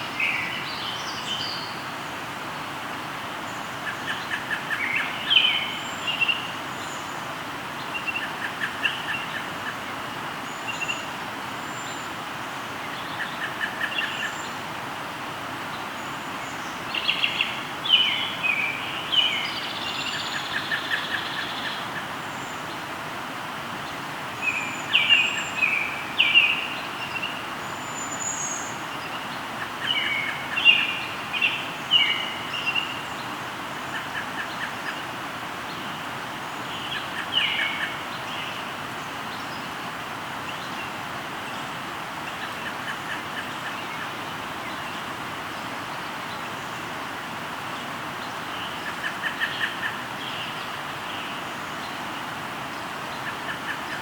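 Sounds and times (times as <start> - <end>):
river flowing: 0.0 - 54.0
songbirds singing: 0.0 - 54.0.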